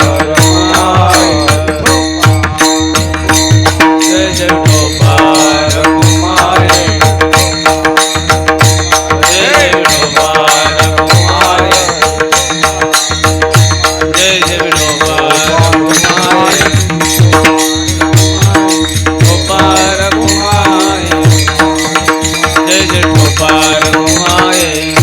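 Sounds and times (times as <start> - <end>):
drum playing fast rhythm: 0.0 - 25.0
wavering melody: 0.0 - 25.0.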